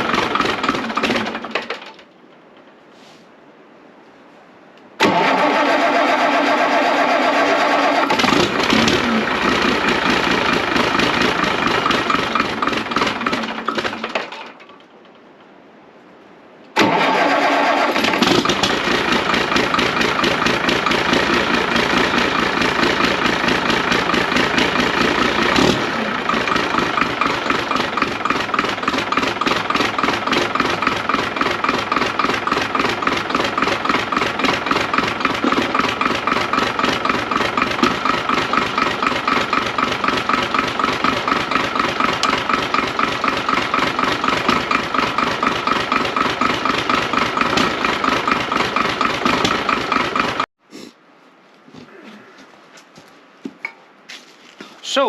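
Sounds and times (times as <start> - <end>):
diesel engine running: 0.0 - 2.0, 5.0 - 14.6, 16.8 - 50.5.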